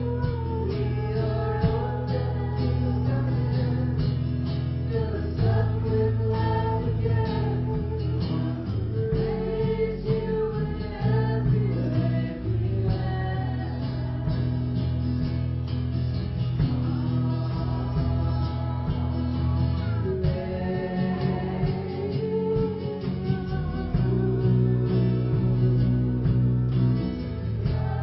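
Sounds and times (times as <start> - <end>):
person singing: 0.0 - 15.0, 16.4 - 28.0
guitar accompaniment: 0.0 - 28.0.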